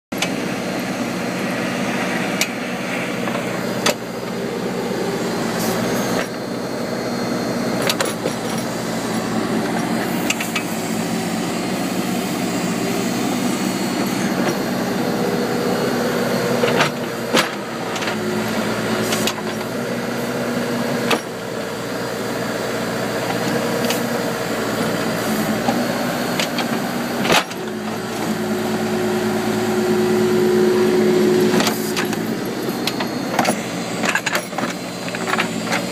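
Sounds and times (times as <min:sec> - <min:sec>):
backhoe diesel engine running: 0:00.1 - 0:35.9.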